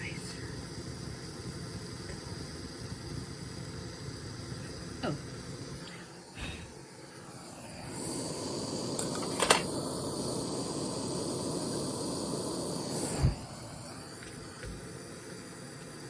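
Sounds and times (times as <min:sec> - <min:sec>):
gas torch flame hissing: 0:00.0 - 0:16.0.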